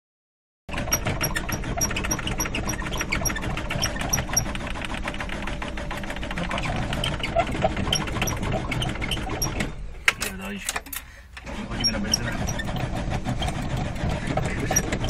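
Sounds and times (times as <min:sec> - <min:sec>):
car engine ticking and rumbling: 0:00.7 - 0:15.0.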